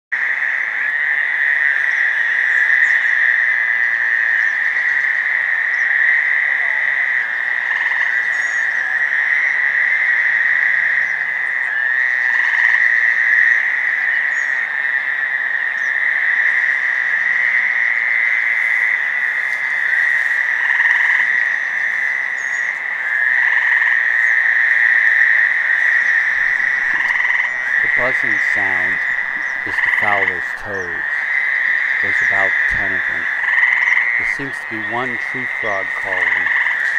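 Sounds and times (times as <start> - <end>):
toads buzzing chorus: 0.2 - 36.9
tree frog trill: 0.2 - 36.9.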